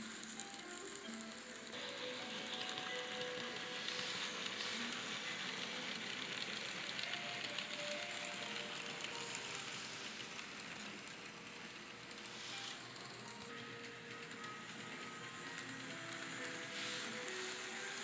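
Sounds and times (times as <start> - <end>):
model train motor whirring: 0.0 - 18.0
small wheels rattling on rail: 0.0 - 18.0.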